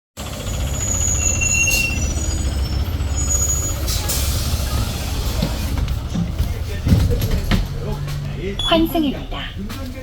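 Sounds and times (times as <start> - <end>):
bus engine low rumble: 0.2 - 10.0.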